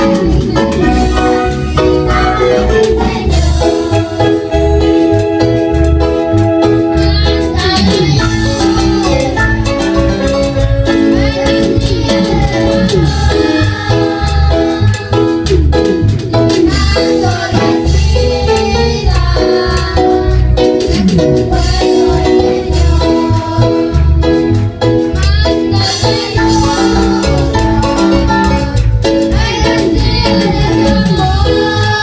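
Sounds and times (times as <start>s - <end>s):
latin tropical band music: 0.0s - 32.0s.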